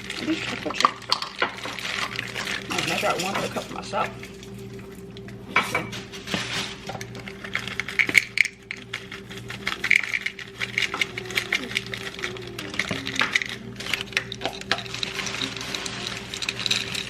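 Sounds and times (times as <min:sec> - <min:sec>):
chocolate chips clattering into cup: 0:00.0 - 0:04.3, 0:06.3 - 0:17.0
steady low hum: 0:00.0 - 0:17.0.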